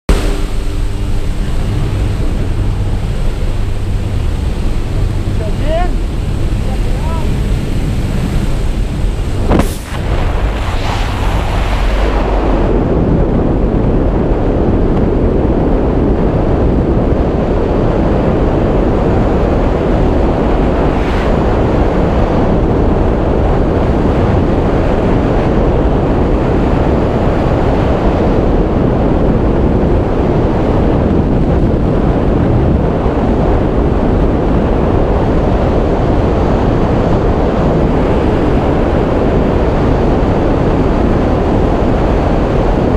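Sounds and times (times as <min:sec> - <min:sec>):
freefall wind buffeting microphone: 0:00.1 - 0:42.9
plane engine drone: 0:00.1 - 0:42.9
rushing air at open door: 0:00.1 - 0:42.9.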